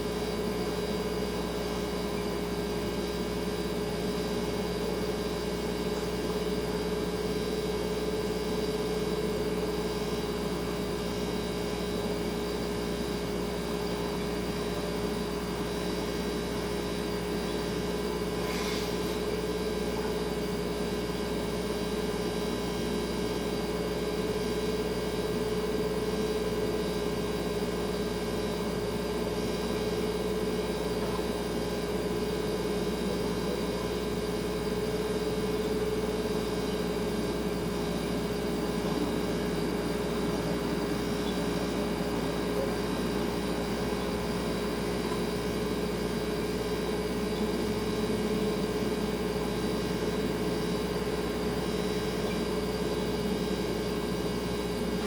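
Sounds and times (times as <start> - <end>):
refrigerator humming: 0.0 - 55.0.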